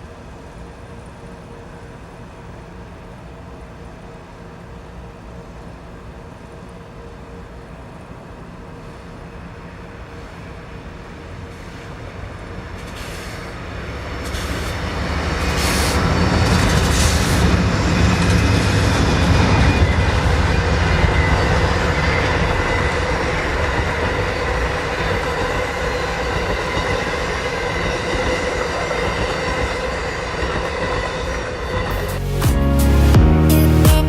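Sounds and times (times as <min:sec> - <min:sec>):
train rumbling past: 0:00.0 - 0:33.9.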